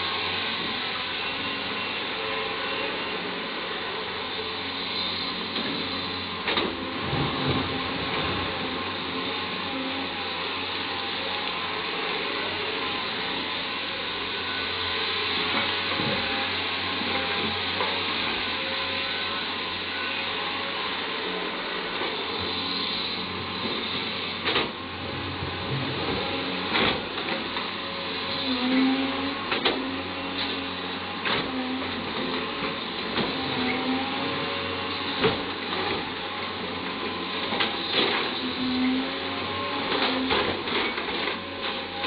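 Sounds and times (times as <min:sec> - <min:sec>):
excavator running: 0:00.0 - 0:42.0.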